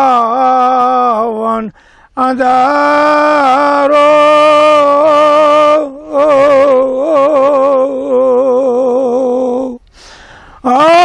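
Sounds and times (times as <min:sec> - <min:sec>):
man chanting: 0:00.0 - 0:09.8, 0:10.6 - 0:11.0.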